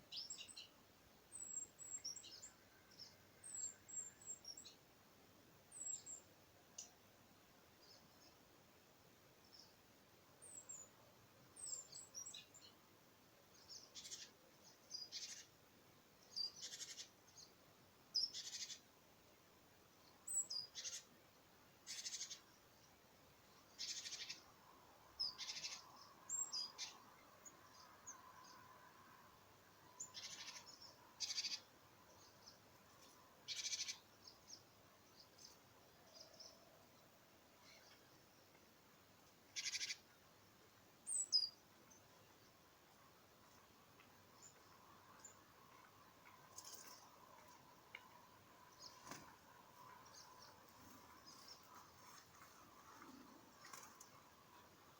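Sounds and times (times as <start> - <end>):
small birds calling: 0.0 - 4.9, 5.7 - 7.0, 10.4 - 12.9, 13.5 - 15.6, 16.2 - 19.0, 20.0 - 21.2, 21.8 - 40.3, 41.0 - 42.7, 43.6 - 54.9.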